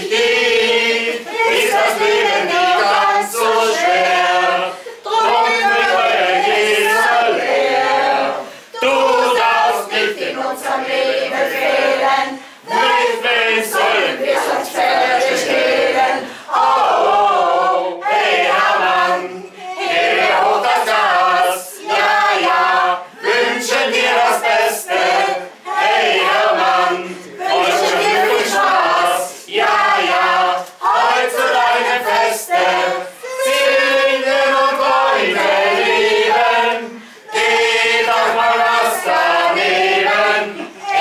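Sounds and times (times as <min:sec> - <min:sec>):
group singing in unison: 0:00.0 - 0:41.0.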